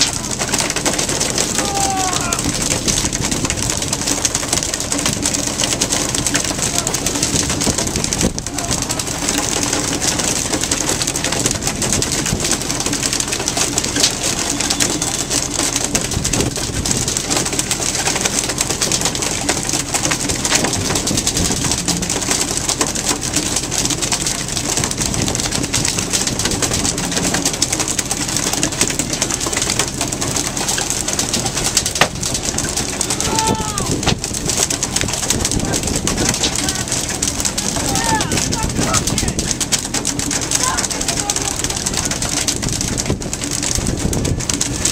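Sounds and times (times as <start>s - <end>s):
boat engine hum: 0.0s - 44.9s
small knocks and clatter: 0.0s - 44.9s
wind and water rushing: 0.0s - 44.9s.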